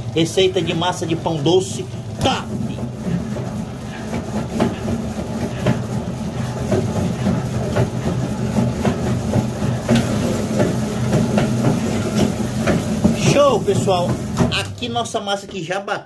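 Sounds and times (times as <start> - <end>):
dough mixer motor hum: 0.0 - 15.5
mixer knocking: 0.0 - 16.0.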